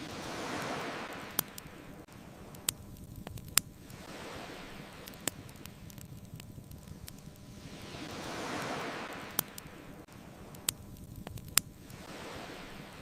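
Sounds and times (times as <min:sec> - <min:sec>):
bonfire crackling and popping: 0:00.0 - 0:13.0
ocean waves washing in: 0:00.0 - 0:13.0.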